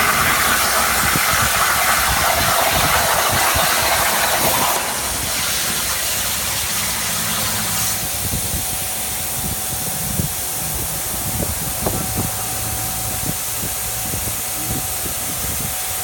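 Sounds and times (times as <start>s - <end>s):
plasma torch hissing: 0.0s - 16.0s
steady mechanical drone: 0.0s - 16.0s.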